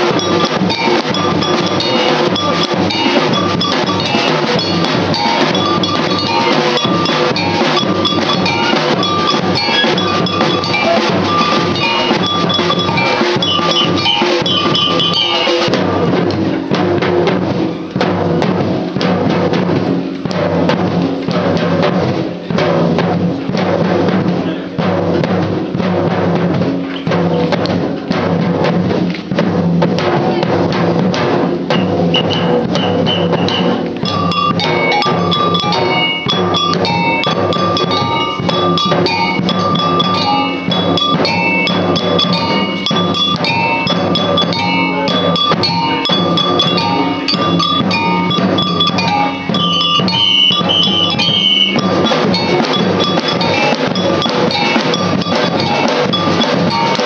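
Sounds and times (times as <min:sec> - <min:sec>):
samba percussion band: 0:00.0 - 0:57.0.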